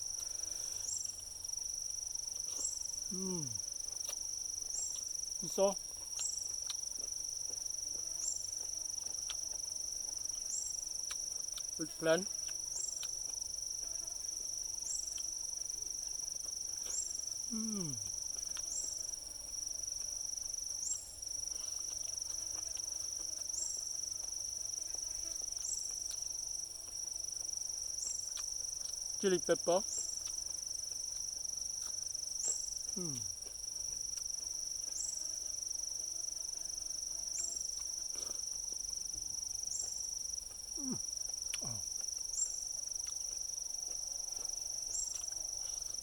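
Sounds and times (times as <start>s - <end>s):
insects trilling: 0.0s - 46.0s.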